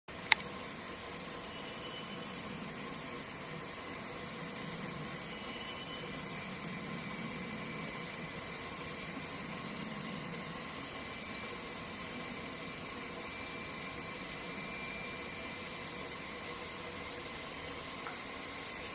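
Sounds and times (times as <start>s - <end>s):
background hiss: 0.1s - 18.9s
high-pitched insect drone: 0.1s - 18.9s.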